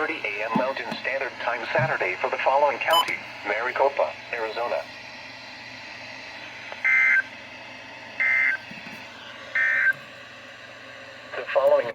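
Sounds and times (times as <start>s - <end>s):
radio hiss: 0.0s - 11.9s.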